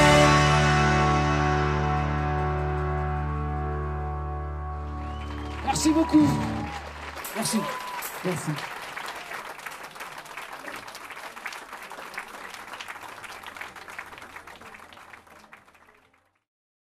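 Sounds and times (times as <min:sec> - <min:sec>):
audience applauding: 0:01.8 - 0:16.4.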